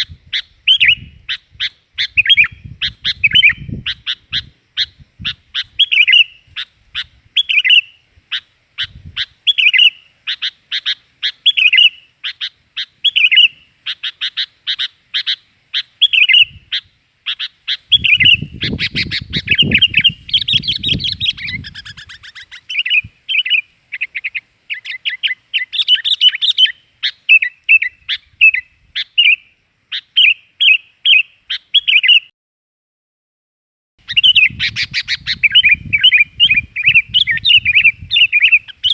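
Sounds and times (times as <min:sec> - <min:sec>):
bulbul bird chirping: 0:00.0 - 0:32.3, 0:34.0 - 0:38.9.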